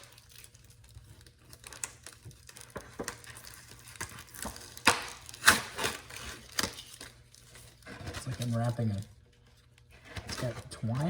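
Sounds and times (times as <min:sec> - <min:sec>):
wrapping rustling and crinkling: 0:00.0 - 0:11.0.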